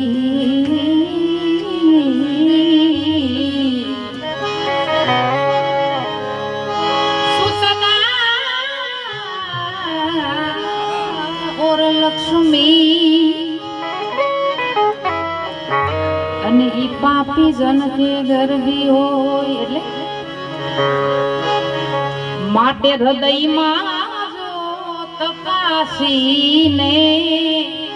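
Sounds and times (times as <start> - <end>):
instrumental accompaniment chords: 0.0 - 27.9.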